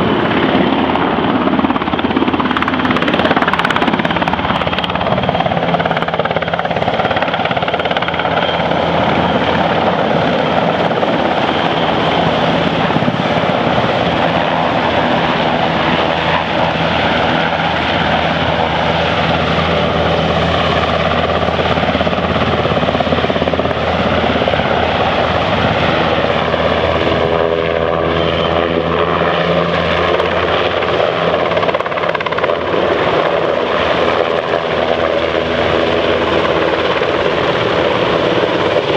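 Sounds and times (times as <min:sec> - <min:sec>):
helicopter rotors and engines: 0:00.0 - 0:38.9.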